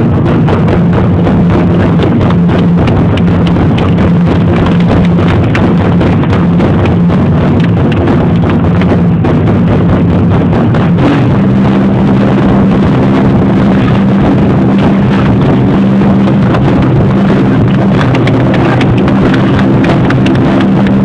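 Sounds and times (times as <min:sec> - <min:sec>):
steady low tone: 0:00.0 - 0:21.0.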